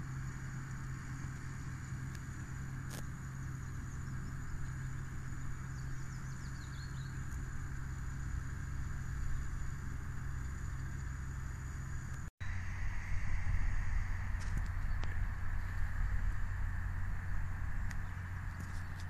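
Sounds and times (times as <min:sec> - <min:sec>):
tractor engine hum: 0:00.0 - 0:19.0.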